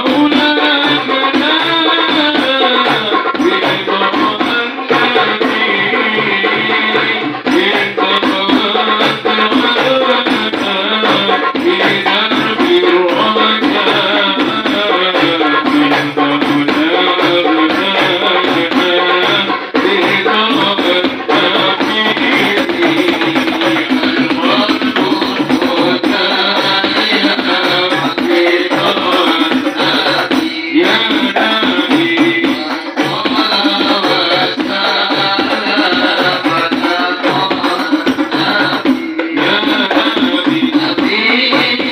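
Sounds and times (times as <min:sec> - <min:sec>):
continuous melody: 0:00.0 - 0:41.9
frame drums beat: 0:00.0 - 0:41.9
jingling percussion: 0:00.0 - 0:41.9.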